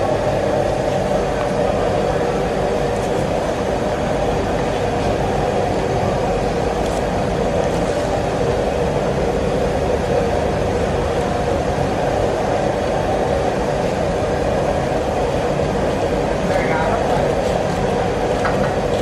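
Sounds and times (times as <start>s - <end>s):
kitchen equipment roaring: 0.0s - 19.0s.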